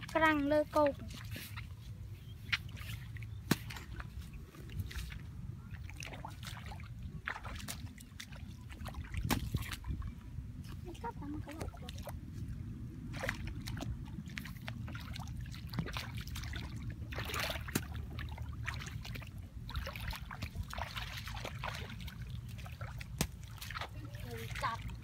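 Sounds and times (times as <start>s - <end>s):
steady low rumble: 0.0s - 25.0s
water trickling and sloshing: 0.0s - 25.0s
splashes: 2.4s - 25.0s.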